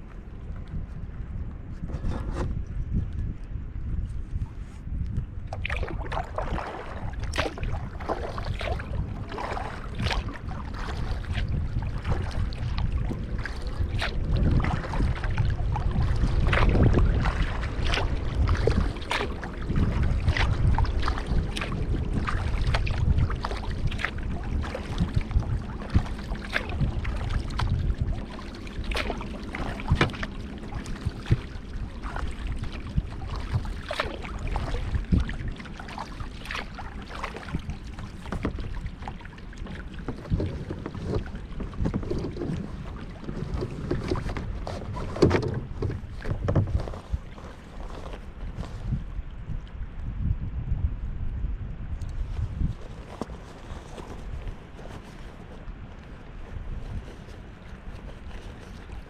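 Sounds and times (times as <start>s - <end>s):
wind buffeting microphone: 0.0s - 59.0s
paddle splashes: 5.4s - 49.8s, 52.0s - 59.0s.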